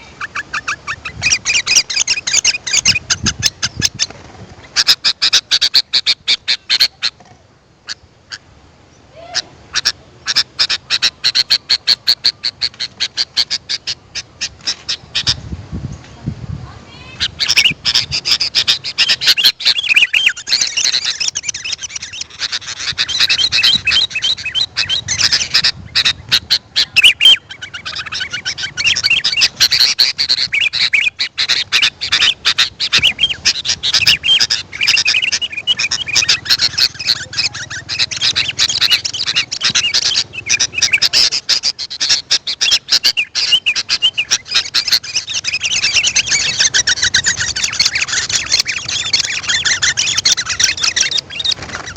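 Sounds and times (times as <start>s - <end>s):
birds chattering and singing: 0.0s - 51.9s.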